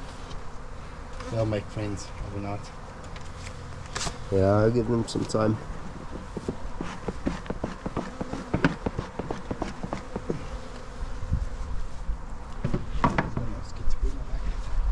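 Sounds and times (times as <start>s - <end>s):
bees buzzing: 0.0s - 13.7s.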